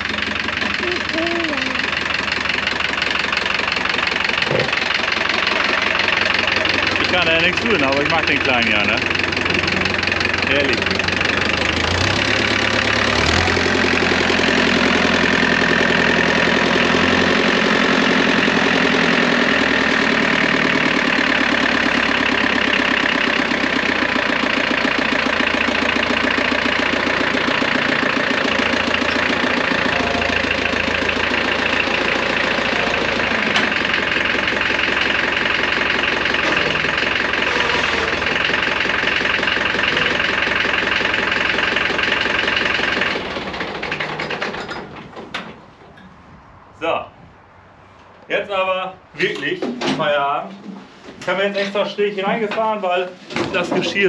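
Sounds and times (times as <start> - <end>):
tractor diesel engine running: 0.0 - 46.9, 49.2 - 54.0.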